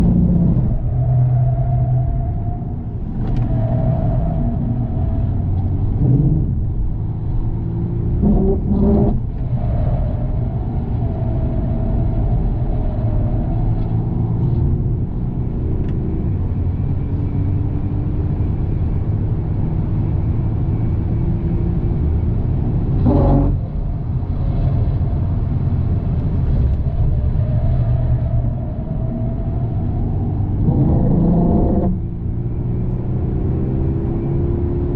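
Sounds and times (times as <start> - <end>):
car engine low rumble: 0.0 - 34.9.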